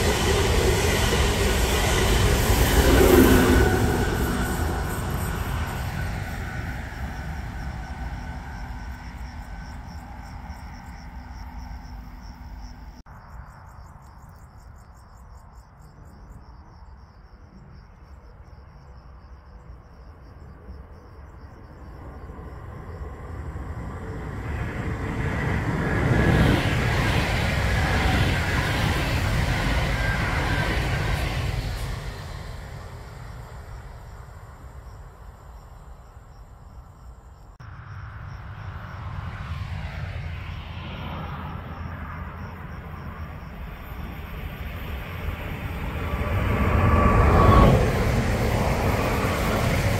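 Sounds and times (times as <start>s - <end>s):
loud train noise: 0.0s - 13.0s, 21.2s - 36.7s, 37.6s - 49.9s
train rumbling past: 0.0s - 13.0s, 19.6s - 49.9s
insects chirping: 0.0s - 49.9s.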